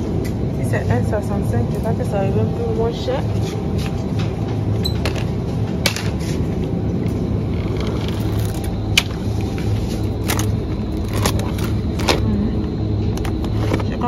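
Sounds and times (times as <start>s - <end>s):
refrigerator hum: 0.0s - 14.0s.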